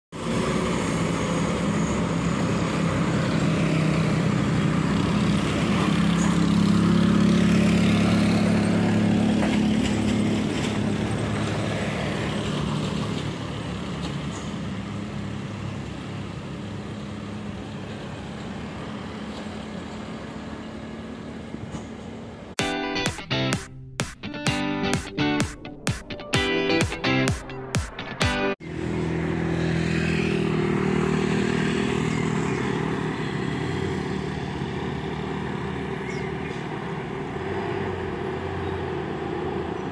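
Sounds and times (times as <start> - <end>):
truck engine passing: 0.2 - 39.9.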